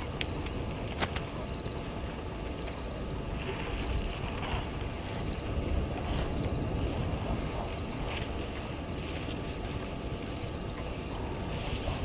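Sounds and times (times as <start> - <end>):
steady low outdoor noise: 0.0 - 12.0.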